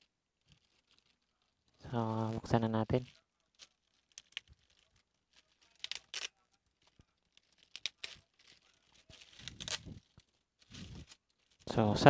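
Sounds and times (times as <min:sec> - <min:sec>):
plastic bag crinkling and tearing: 0:00.4 - 0:11.7.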